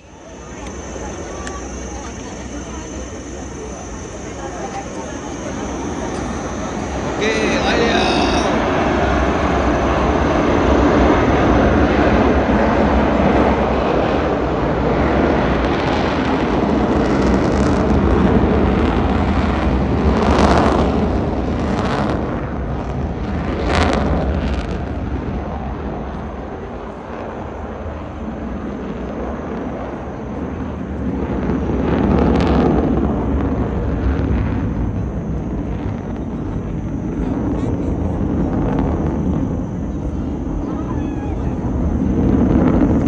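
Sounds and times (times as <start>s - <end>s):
jet engines roaring on takeoff: 0.0s - 43.0s.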